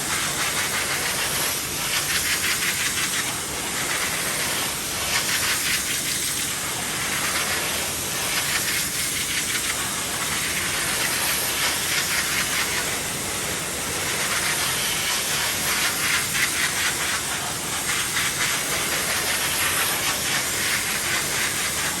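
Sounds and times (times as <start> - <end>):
steam cleaner hissing: 0.0 - 22.0.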